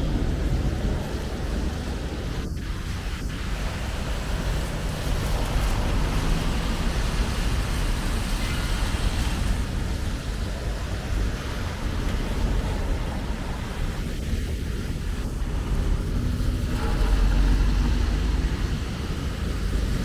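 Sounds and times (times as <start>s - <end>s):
city traffic rumble and hiss: 0.0s - 20.0s.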